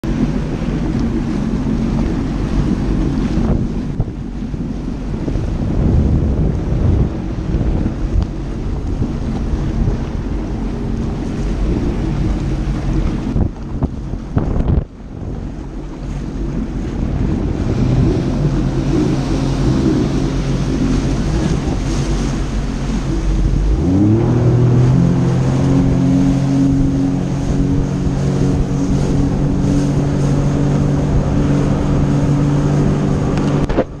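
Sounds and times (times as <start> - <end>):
jet ski engine running: 0.0 - 34.0
water rushing past hull: 0.0 - 34.0
wind buffeting microphone: 0.0 - 34.0.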